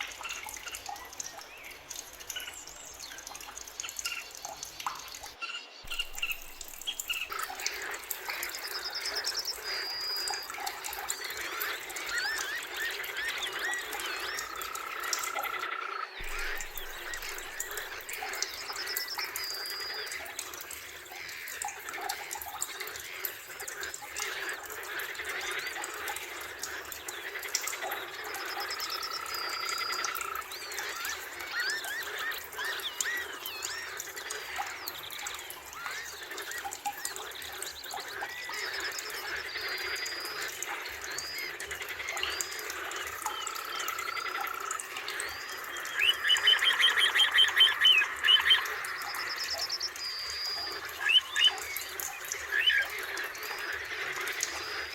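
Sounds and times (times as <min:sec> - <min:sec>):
birds singing and calling: 0:00.0 - 0:54.9.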